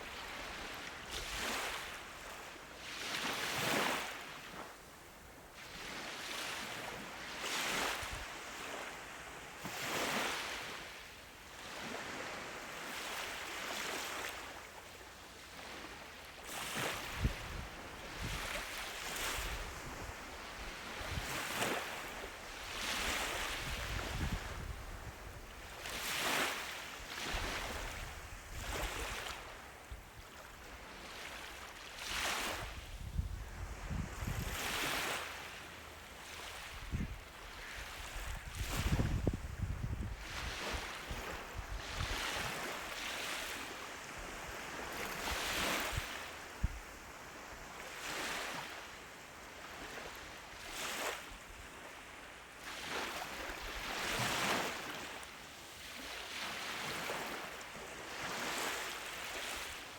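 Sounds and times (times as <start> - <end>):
ocean waves breaking on beach: 0.0 - 4.8, 15.4 - 59.9.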